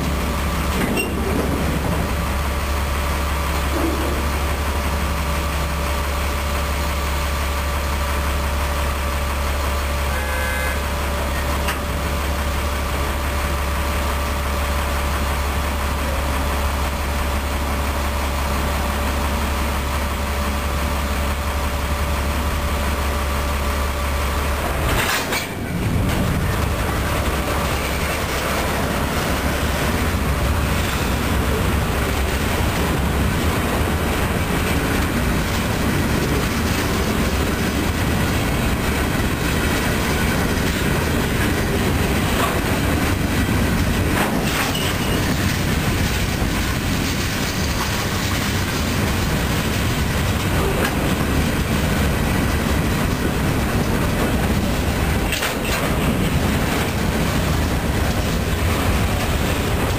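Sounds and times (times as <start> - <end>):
clickety-clack over rail joints: 0.0 - 7.6, 10.1 - 59.9
steel wheels rolling on rails: 0.0 - 59.9.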